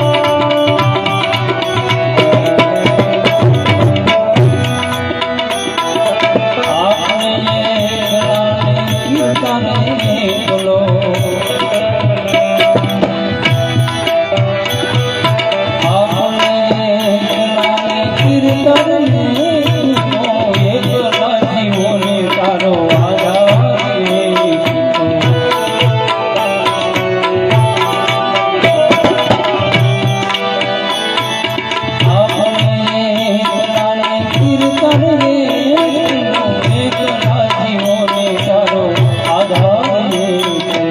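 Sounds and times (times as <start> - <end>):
gliding melodic line: 0.0 - 40.9
tabla rhythm: 0.0 - 40.9.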